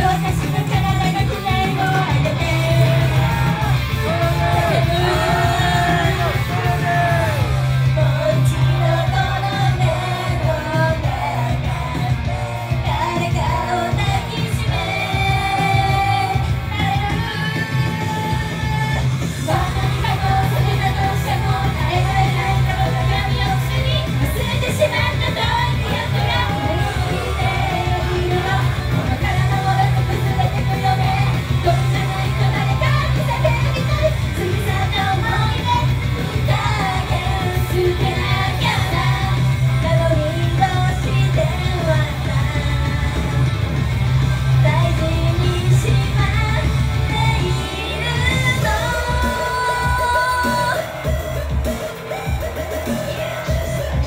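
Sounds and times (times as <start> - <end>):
female voices singing pop: 0.0 - 43.9, 44.5 - 54.0
pop music with pulsing bass: 0.0 - 54.0.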